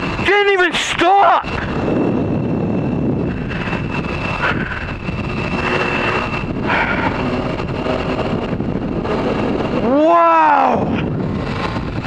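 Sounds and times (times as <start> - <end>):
wind and road noise: 0.0 - 12.0
motorcycle engine running: 1.5 - 12.0.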